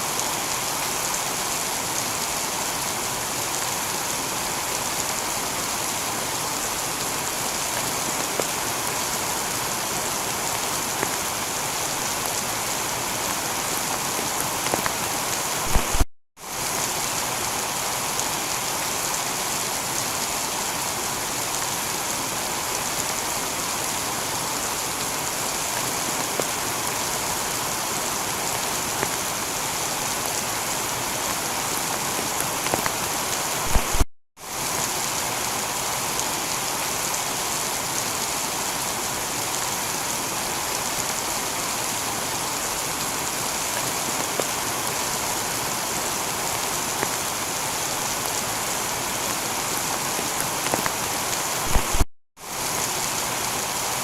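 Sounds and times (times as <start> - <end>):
heavy rain on a tiled roof: 0.0 - 54.0.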